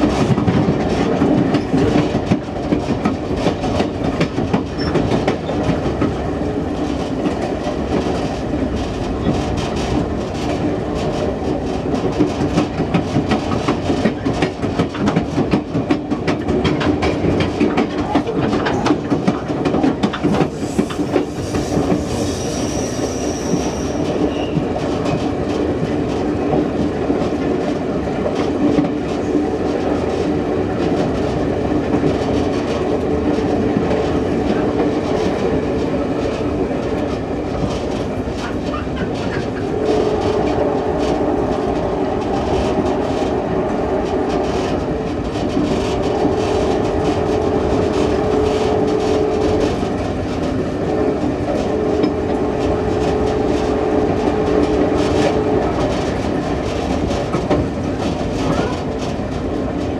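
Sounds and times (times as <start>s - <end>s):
train cars rumbling on track: 0.0s - 59.9s.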